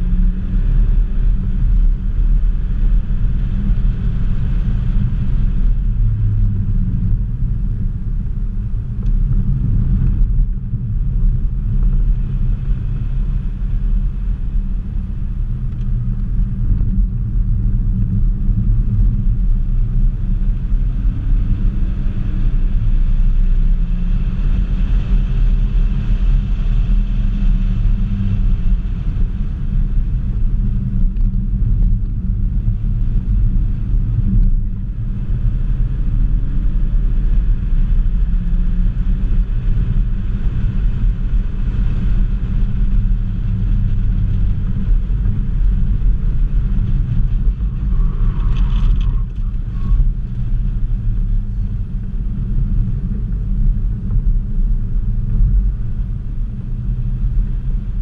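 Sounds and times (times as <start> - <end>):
road and wind rumble: 0.0 - 58.0.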